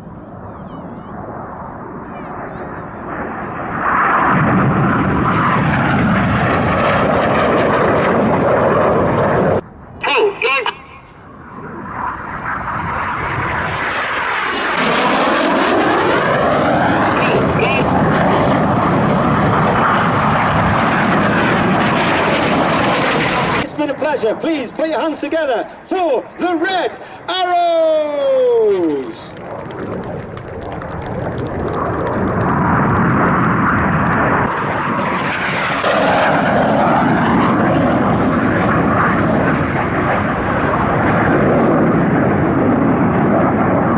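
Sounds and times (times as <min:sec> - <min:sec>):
jets flying past: 0:00.0 - 0:43.9.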